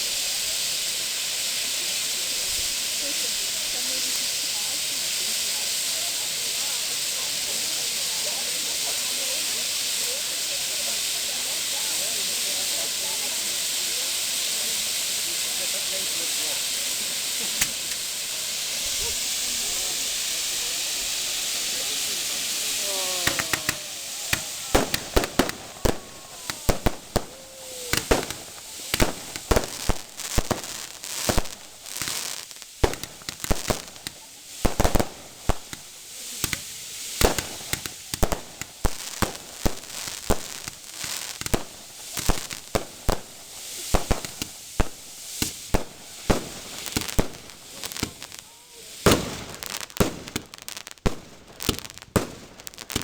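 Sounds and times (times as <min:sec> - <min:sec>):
firework bursts and bangs: 0:00.0 - 0:53.0
firework whistles: 0:00.0 - 0:53.0.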